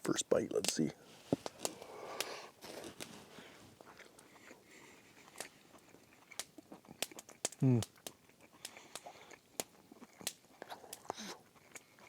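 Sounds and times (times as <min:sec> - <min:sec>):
person chewing food: 0:01.4 - 0:12.0.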